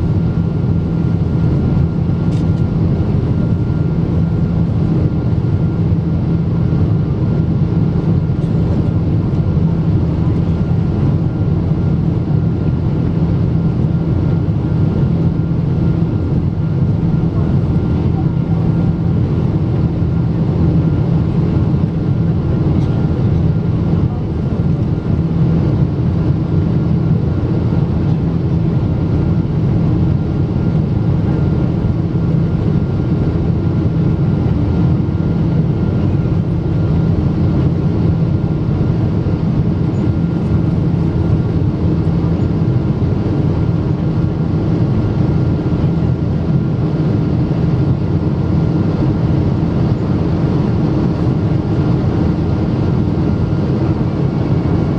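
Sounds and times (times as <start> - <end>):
airliner cabin engine drone: 0.0 - 54.9.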